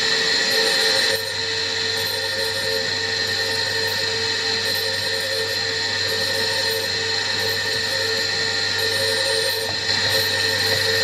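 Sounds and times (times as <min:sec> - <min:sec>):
surface grinder whining: 0:00.0 - 0:11.0.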